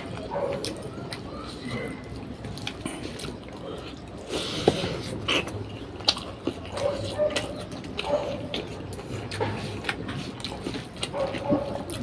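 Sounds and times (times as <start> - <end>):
chewing and mouth noises: 0.0 - 12.0.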